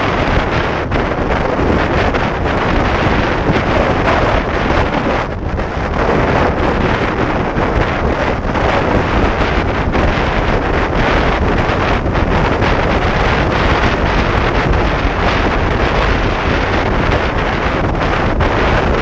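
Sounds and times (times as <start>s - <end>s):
heavy wind noise on microphone: 0.0s - 19.0s.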